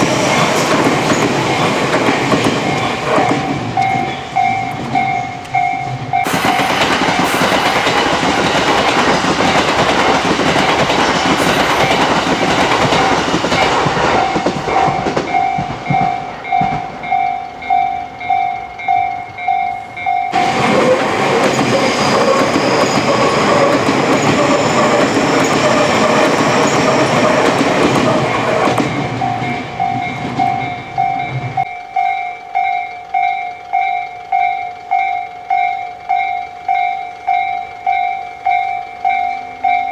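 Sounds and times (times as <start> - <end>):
electric trains passing: 0.0 - 39.9
faint train whine: 0.0 - 39.9
level-crossing bell ringing: 0.0 - 39.9.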